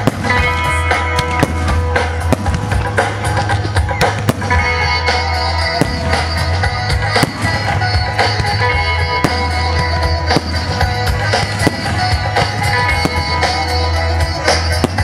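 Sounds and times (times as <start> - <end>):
fireworks bursting: 0.0 - 15.0
loud music with heavy drum beat: 0.0 - 15.0.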